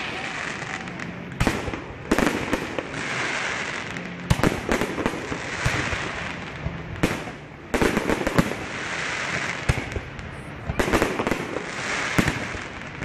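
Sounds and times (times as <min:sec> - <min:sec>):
fireworks bursting: 0:00.0 - 0:13.0
fireworks crackling hiss: 0:00.0 - 0:13.0.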